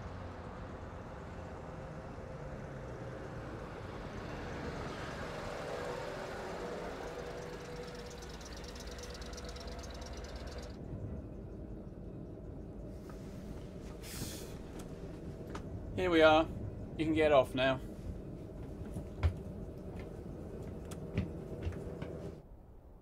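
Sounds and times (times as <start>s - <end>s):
coach engine running: 0.0s - 22.4s.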